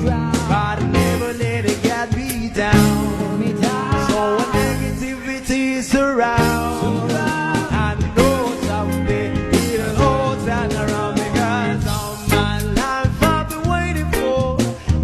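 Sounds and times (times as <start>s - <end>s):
song with steady beat and bass: 0.0s - 15.0s.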